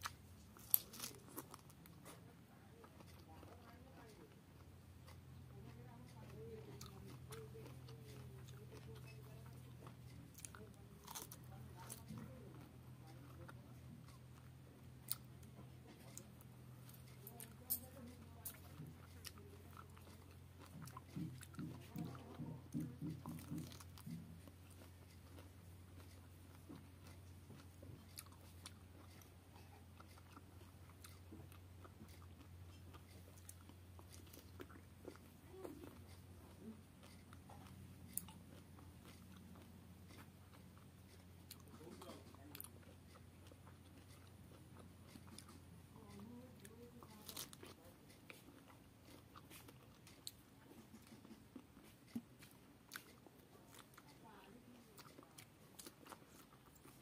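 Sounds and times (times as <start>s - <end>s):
person biting and chewing: 0.0s - 2.2s, 6.8s - 54.2s, 55.0s - 57.0s
low steady hum: 0.0s - 57.0s.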